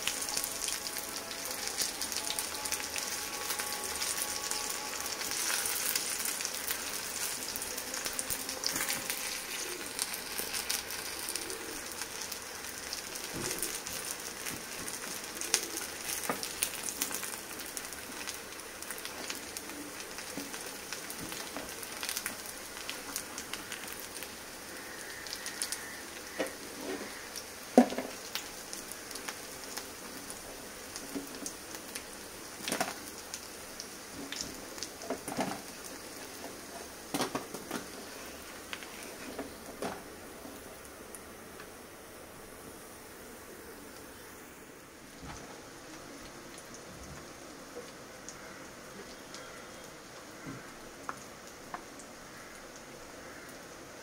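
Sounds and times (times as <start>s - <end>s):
patties sizzling in hot oil: 0.0s - 54.0s.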